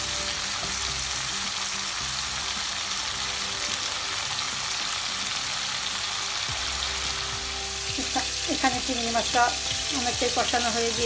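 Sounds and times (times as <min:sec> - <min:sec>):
prawns sizzling in hot oil: 0:00.0 - 0:11.0.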